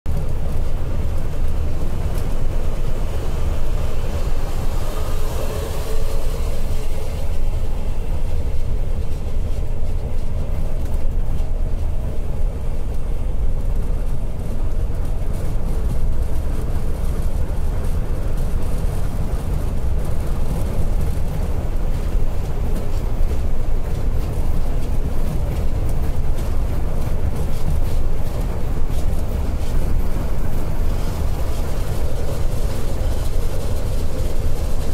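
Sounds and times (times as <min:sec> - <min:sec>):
coach engine and road noise: 0:00.1 - 0:34.9.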